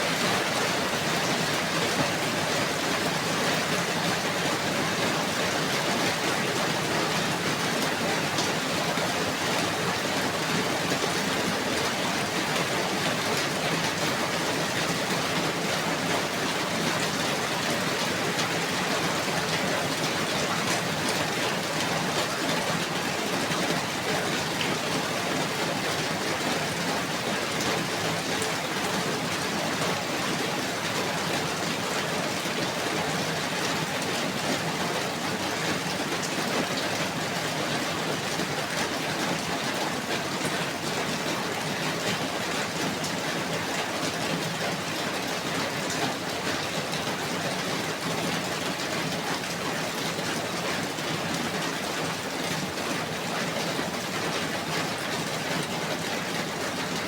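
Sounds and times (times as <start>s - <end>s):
steady rain pattering: 0.0s - 57.0s.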